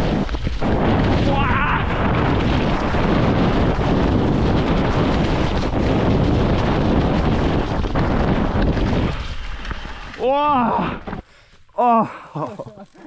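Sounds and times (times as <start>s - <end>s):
bike frame rattling: 0.0s - 11.2s
wind rushing over microphone: 0.0s - 11.2s
bike tyres rolling: 0.0s - 13.0s.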